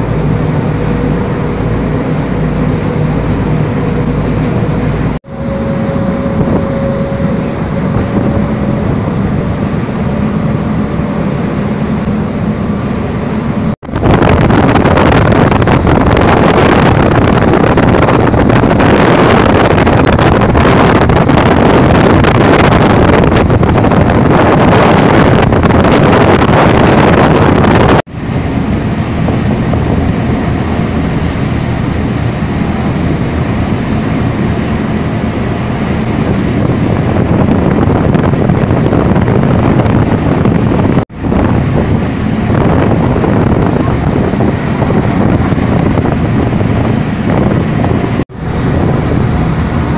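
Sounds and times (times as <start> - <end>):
motorboat engine running: 0.0 - 49.9
rushing water: 0.0 - 49.9
wind noise on microphone: 0.0 - 49.9.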